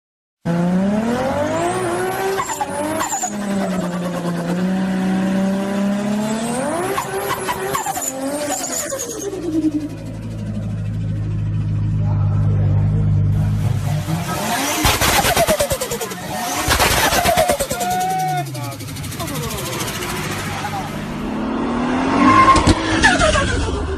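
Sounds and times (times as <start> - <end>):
car engine accelerating: 0.4 - 23.9.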